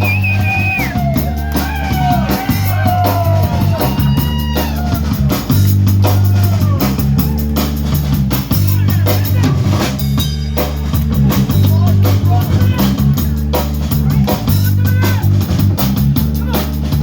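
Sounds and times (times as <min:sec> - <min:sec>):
drum kit groove: 0:00.0 - 0:17.0
electric bass: 0:00.0 - 0:17.0.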